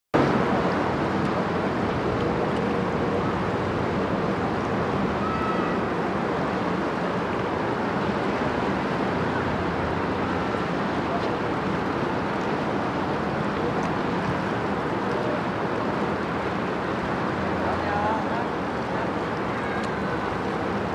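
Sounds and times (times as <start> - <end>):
river water rushing: 0.2 - 20.9.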